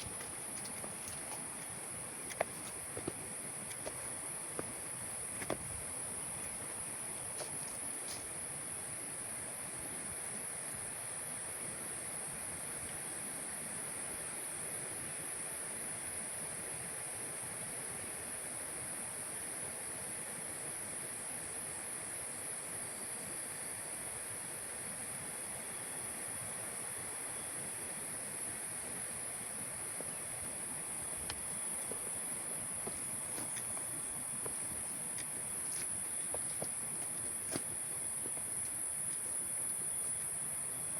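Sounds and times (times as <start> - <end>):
forest background hiss: 0.0 - 40.9.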